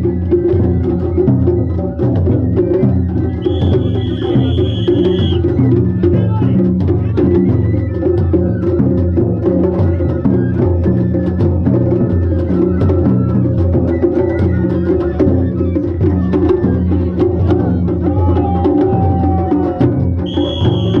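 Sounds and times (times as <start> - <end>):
drums: 0.0 - 21.0.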